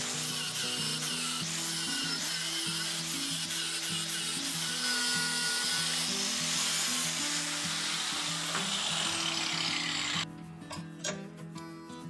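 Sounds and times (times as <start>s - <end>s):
angle grinder cutting steel: 0.0s - 10.3s
background music: 0.0s - 12.0s.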